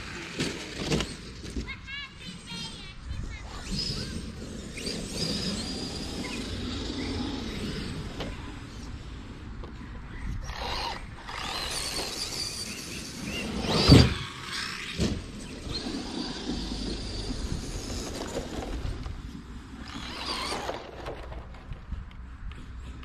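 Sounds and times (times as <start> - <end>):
electric toy car motors whining: 0.0 - 1.7, 2.3 - 21.6.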